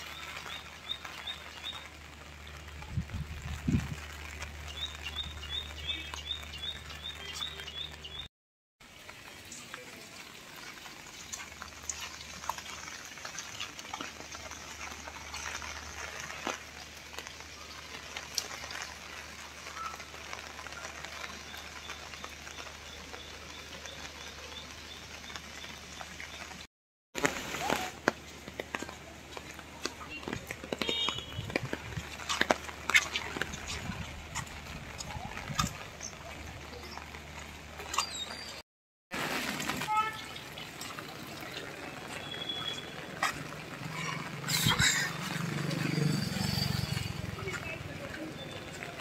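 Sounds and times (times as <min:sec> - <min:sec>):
light rain pattering: 0:00.0 - 0:49.0.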